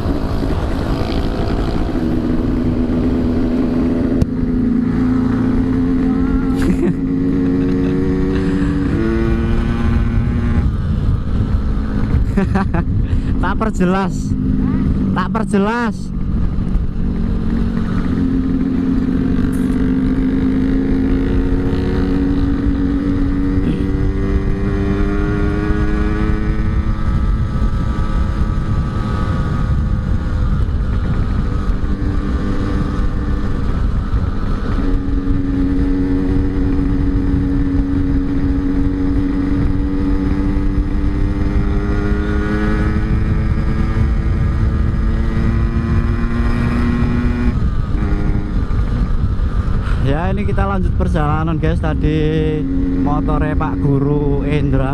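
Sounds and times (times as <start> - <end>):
motorcycle engine accelerating: 0.0 - 54.9
wind rumble on microphone: 0.0 - 54.9.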